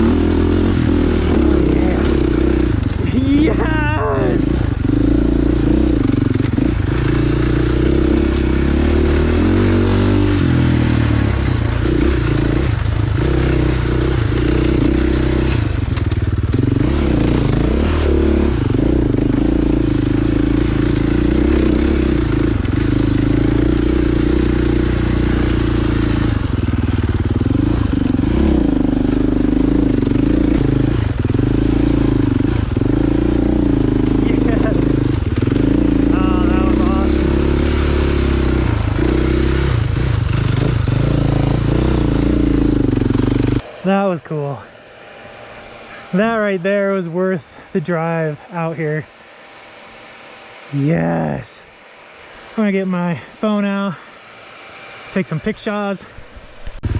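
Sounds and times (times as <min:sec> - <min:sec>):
dirt bike engine running: 0:00.0 - 0:56.9.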